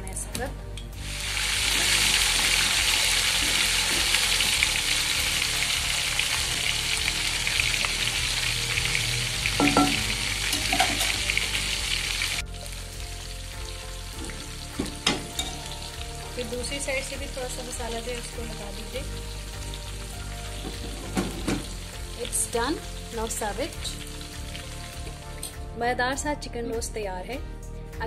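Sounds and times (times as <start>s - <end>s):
chicken sizzling in hot oil: 1.0s - 25.5s.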